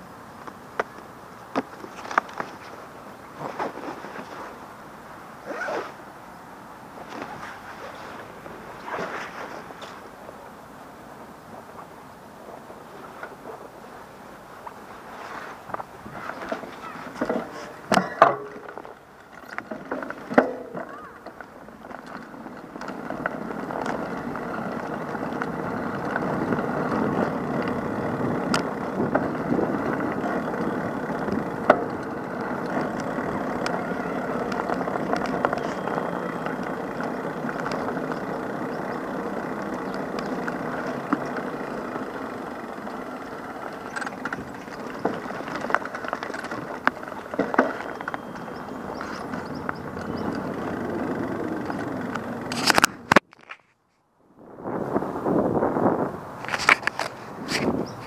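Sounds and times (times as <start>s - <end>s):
street ambience: 0.0s - 58.0s.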